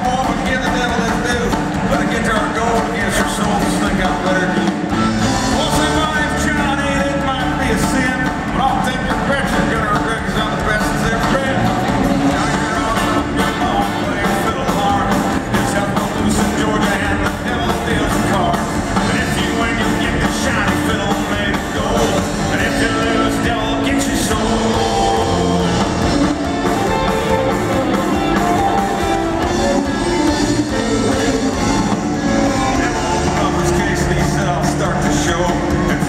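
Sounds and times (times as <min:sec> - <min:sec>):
man singing into microphone: 0:00.0 - 0:26.2, 0:29.6 - 0:36.0
drum beat: 0:00.0 - 0:36.0
electric guitars: 0:00.0 - 0:36.0
live country-rock band: 0:00.0 - 0:36.0.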